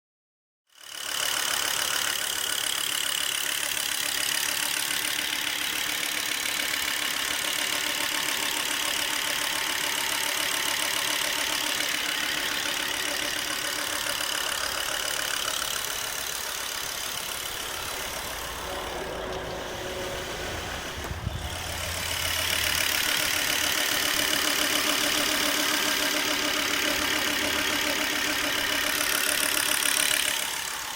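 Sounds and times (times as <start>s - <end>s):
car engine idling: 0.8s - 30.9s.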